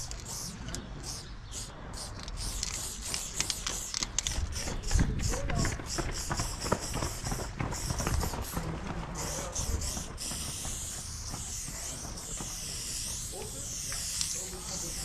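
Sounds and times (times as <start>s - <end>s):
aerosol spray can hissing: 0.0s - 15.0s.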